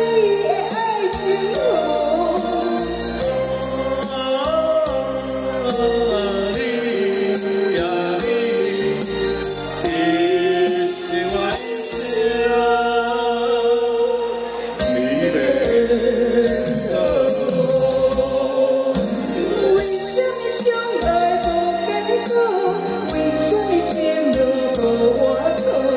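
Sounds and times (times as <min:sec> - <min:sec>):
amplified backing music: 0:00.0 - 0:25.9
man and woman singing duet: 0:00.0 - 0:25.9.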